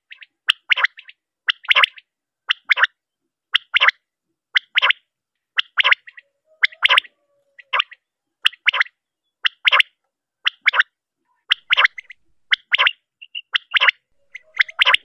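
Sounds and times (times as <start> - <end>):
quail calling: 0.0 - 15.0.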